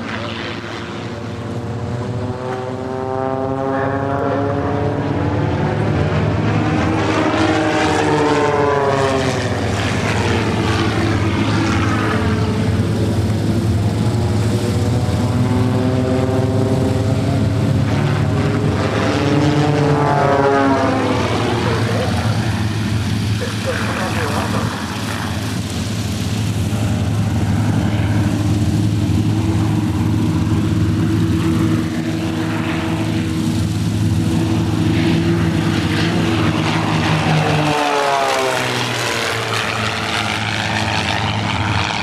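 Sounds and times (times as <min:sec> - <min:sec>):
propeller airplane flying past: 0:00.0 - 0:42.0.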